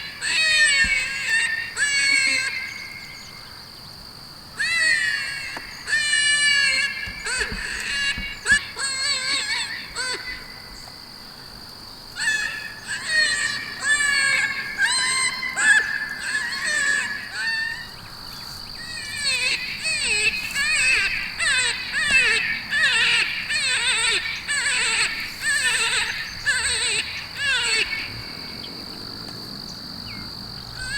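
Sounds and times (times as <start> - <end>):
coyotes yipping and howling: 0.0 - 3.8, 4.5 - 30.9
high insect drone: 0.0 - 30.9.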